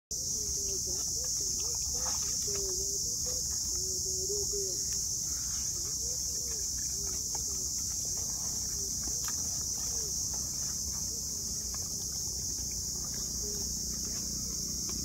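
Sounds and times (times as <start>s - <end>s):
insects chorus: 0.1s - 15.0s.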